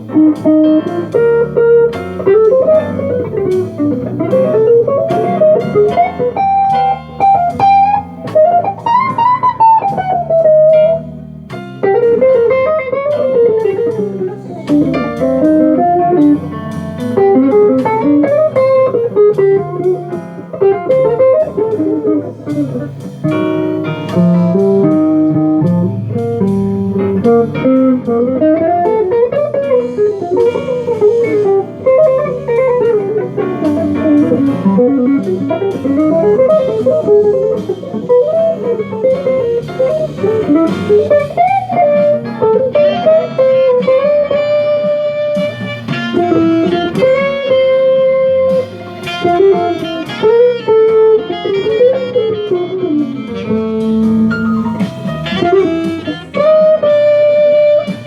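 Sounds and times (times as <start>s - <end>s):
jazz guitar melody: 0.0s - 58.0s
lower accompaniment: 0.0s - 58.0s.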